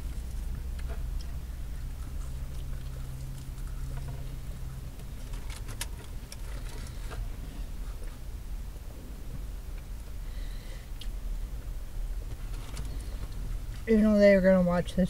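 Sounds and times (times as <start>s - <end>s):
low hum inside car: 0.0s - 15.0s.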